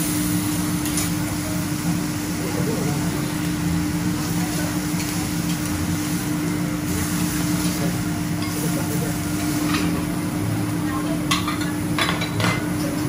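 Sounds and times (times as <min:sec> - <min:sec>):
mechanical hum: 0:00.0 - 0:13.0
seafood sizzling on a griddle: 0:00.0 - 0:13.0.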